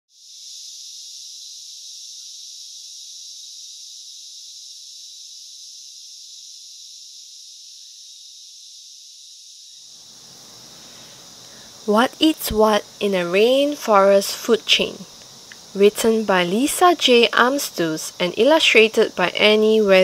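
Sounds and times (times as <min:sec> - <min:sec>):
high-pitched insect chorus: 0:00.1 - 0:20.0.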